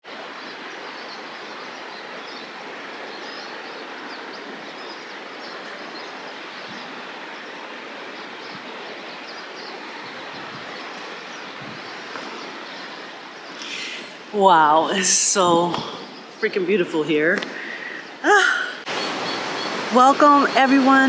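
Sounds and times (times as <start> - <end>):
river rushing: 0.1 - 21.0.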